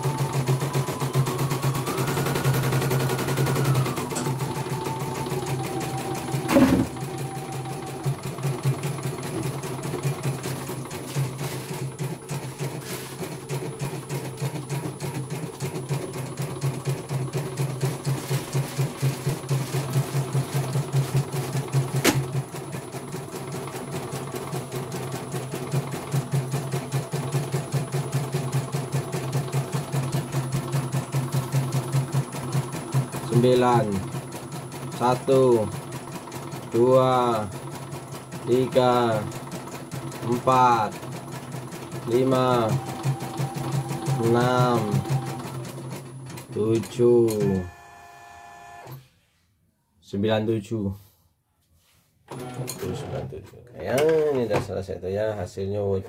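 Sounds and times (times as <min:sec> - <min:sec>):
embroidery machine stitching: 0:00.0 - 0:49.0, 0:52.3 - 0:53.3.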